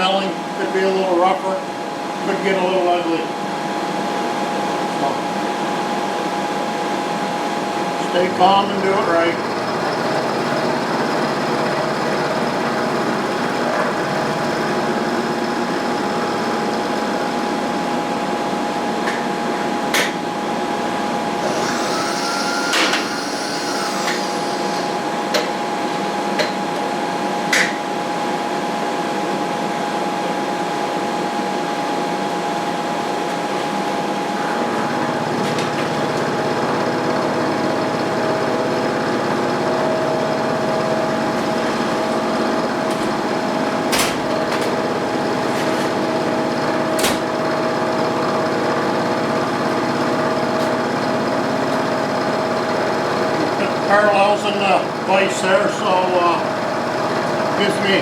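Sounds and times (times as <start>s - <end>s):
milling machine whirring: 3.3s - 28.8s, 31.1s - 58.0s.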